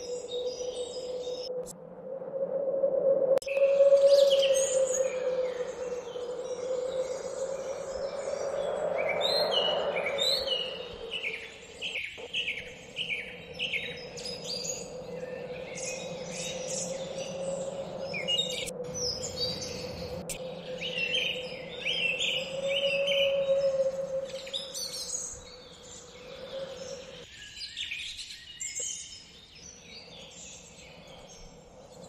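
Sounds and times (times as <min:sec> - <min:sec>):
birds chirping: 0:00.0 - 0:01.6, 0:03.4 - 0:32.0.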